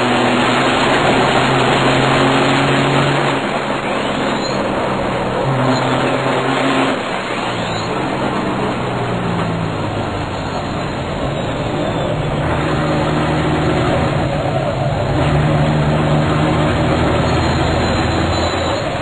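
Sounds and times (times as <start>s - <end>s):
road and wind noise: 0.0s - 19.0s
truck diesel engine running hard: 0.0s - 19.0s.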